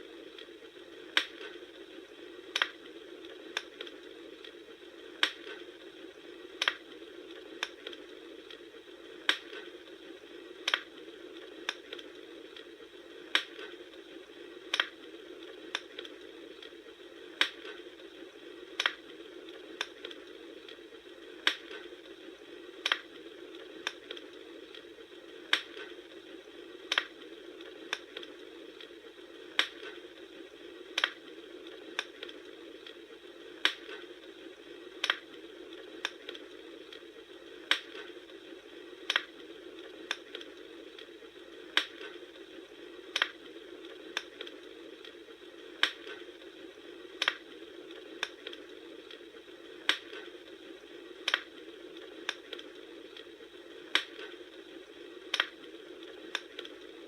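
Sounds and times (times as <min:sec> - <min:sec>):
bonfire crackling and popping: 0:00.0 - 0:57.0
low hiss: 0:00.0 - 0:57.0.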